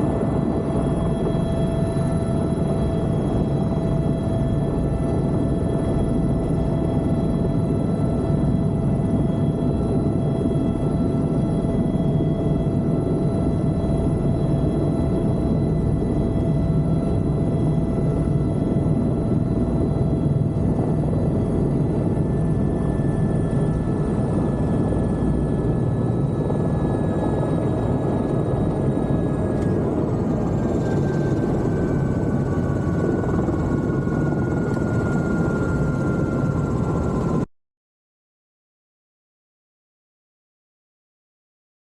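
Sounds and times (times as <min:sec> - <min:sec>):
helicopter rotor and engine: 0:00.0 - 0:37.5
turbine whine: 0:00.0 - 0:37.5.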